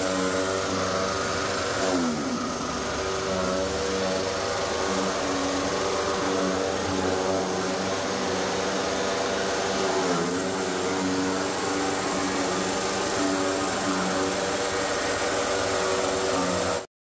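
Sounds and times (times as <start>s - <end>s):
chaff cutter whining: 0.0s - 16.9s.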